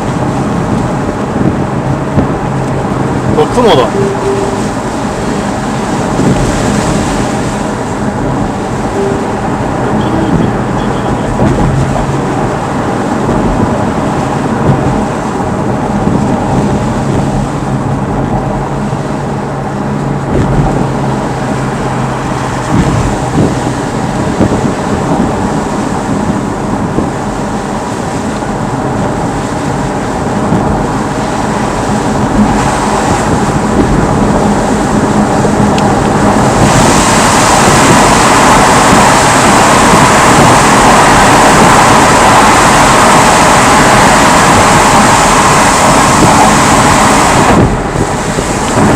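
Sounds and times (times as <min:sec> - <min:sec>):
car engine hum and road noise: 0:00.0 - 0:48.9.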